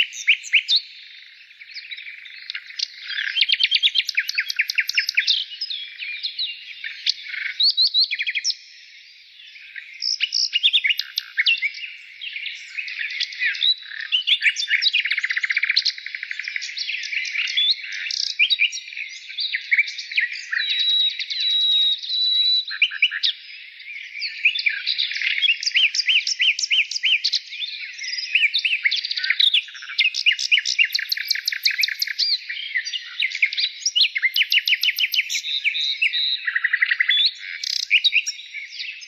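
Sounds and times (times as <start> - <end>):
birds chirping and trilling: 0.0 - 39.0.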